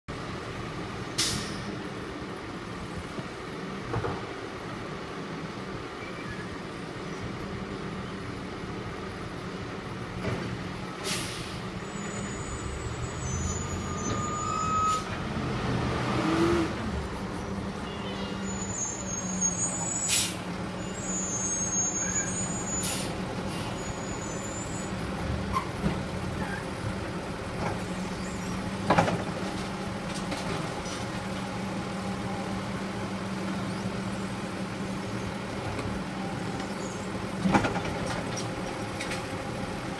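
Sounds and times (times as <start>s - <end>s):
garbage truck diesel engine: 0.1s - 39.9s.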